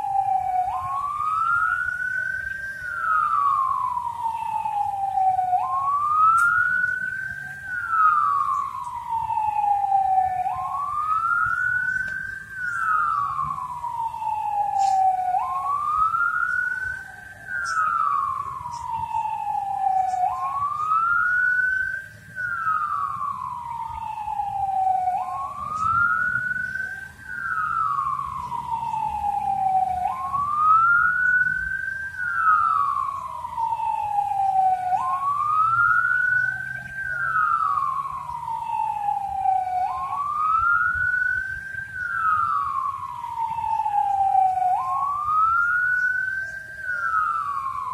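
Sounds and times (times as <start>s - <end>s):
wailing siren: 0.0s - 47.9s.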